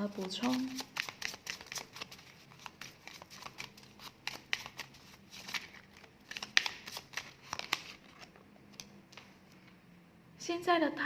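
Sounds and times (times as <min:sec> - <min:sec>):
cards shuffling: 0:00.0 - 0:09.3.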